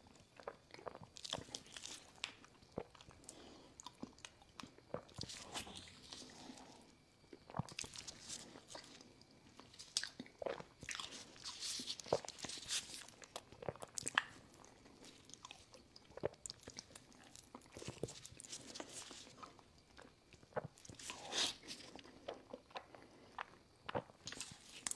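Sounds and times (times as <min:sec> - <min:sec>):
person chewing food: 0:00.0 - 0:24.9.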